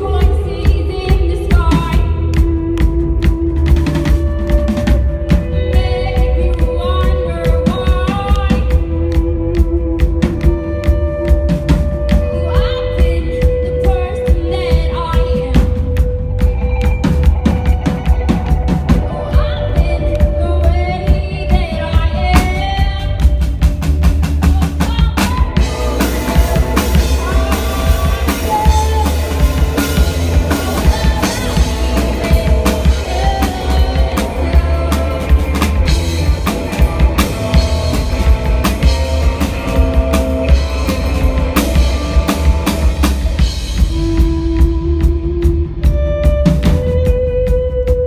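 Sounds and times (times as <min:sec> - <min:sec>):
drum kit beat: 0:00.0 - 0:48.0
rock band playing live: 0:00.0 - 0:48.0.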